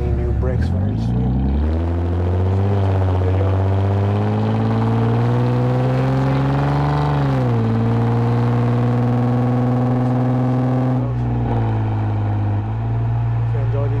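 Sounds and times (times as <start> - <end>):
car engine revving through exhaust: 0.0 - 14.0.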